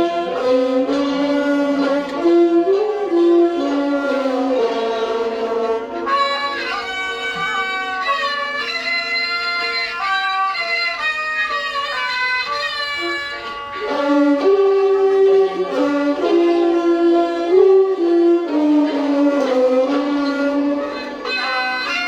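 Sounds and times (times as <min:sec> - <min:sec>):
instrumental ensemble with sliding melody: 0:00.0 - 0:22.0.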